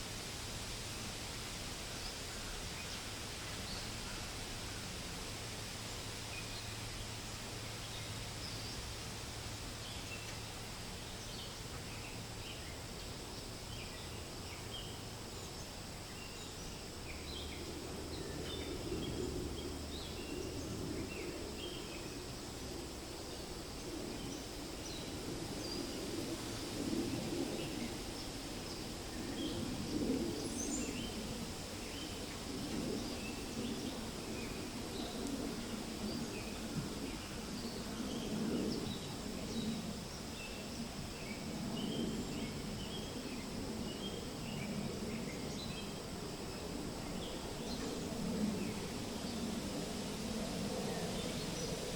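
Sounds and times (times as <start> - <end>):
wind rustling through leaves: 0.0 - 51.9.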